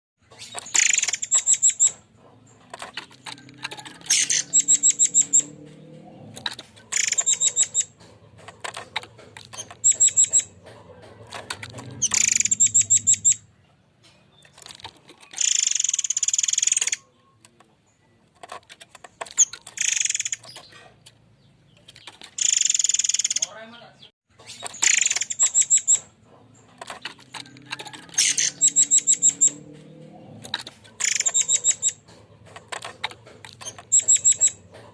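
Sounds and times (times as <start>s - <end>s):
bird singing rattling bursts: 0.2s - 13.5s, 14.3s - 17.2s, 18.4s - 23.8s, 24.4s - 29.8s, 30.4s - 34.9s.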